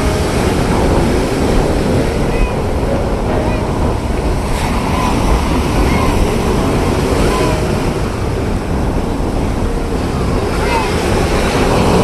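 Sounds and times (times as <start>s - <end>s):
sea surf: 0.0s - 12.0s
wind buffeting microphone: 0.0s - 12.0s.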